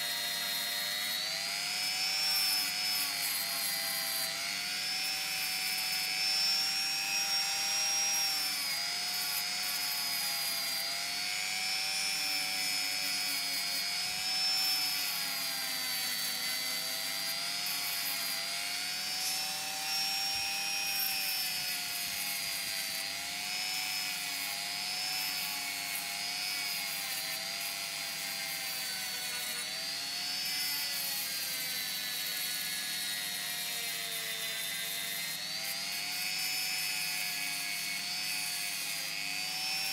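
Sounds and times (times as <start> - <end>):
rotary tool sanding wood: 0.0 - 39.9.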